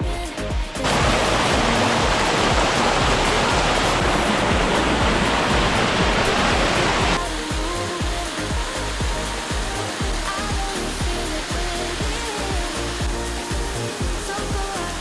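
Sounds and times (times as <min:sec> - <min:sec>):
background music with beat: 0:00.0 - 0:15.0
small waterfall rushing: 0:00.0 - 0:15.0.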